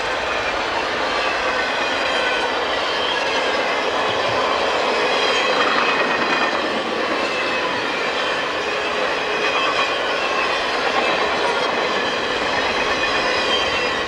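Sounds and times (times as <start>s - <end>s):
diesel locomotives passing: 0.0s - 14.0s
train wheels clattering on rails: 0.0s - 14.0s.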